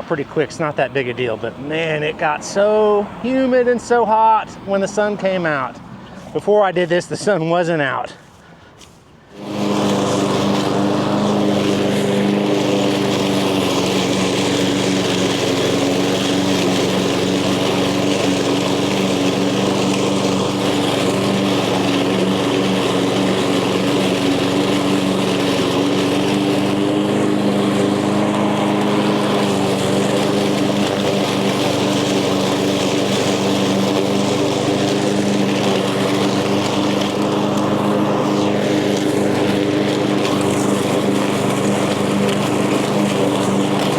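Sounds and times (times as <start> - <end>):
lawn mower engine running: 0.0 - 43.9.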